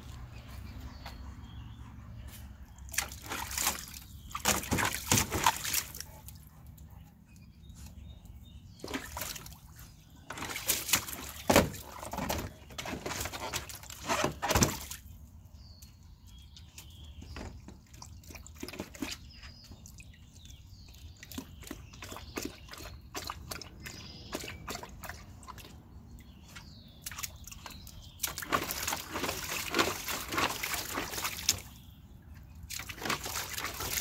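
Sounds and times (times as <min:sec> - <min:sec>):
dogs splashing water: 0:02.7 - 0:06.8, 0:08.6 - 0:15.4, 0:16.7 - 0:34.0.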